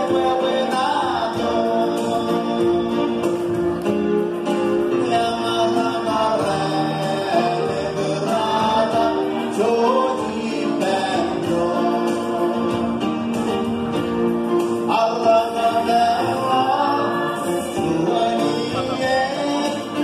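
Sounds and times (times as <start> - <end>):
choir singing: 0.0 - 3.4, 5.3 - 13.5, 15.0 - 20.0.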